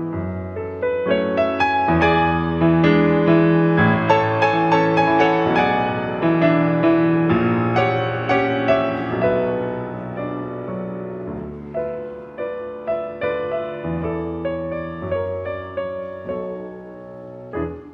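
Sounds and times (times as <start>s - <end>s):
classical piano piece: 0.0s - 17.9s.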